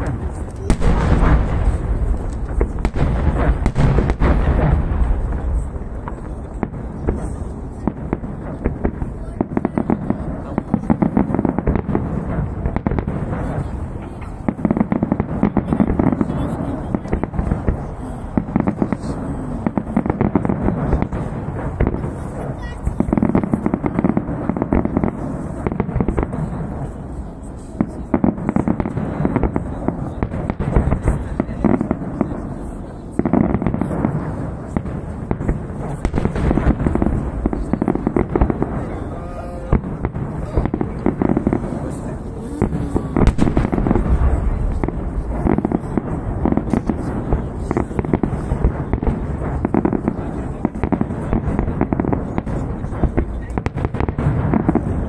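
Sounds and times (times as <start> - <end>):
continuous low rumble: 0.0 - 55.0
fireworks bursting and crackling: 0.0 - 55.0.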